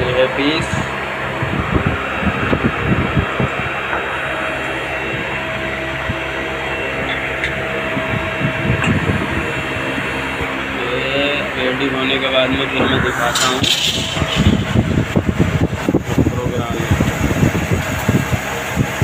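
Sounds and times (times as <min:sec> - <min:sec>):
lathe machine whirring: 0:00.0 - 0:19.0.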